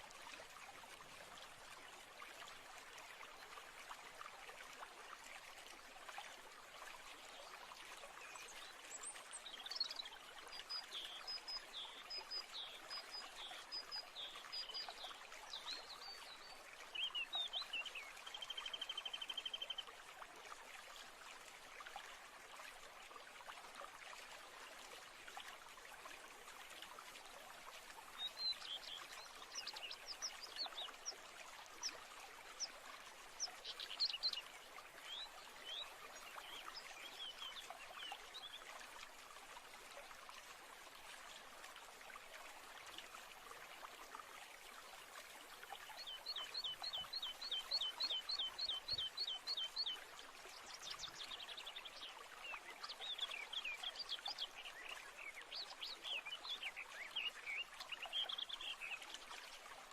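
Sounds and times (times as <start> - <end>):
trickling stream: 0.0 - 59.9.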